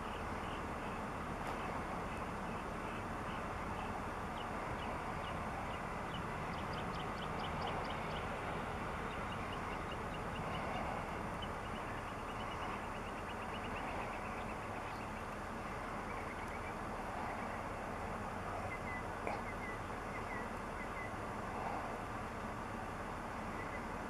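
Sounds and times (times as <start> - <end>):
bird chirping: 0.0 - 21.2, 23.4 - 24.0
jet engines idling: 0.0 - 24.0.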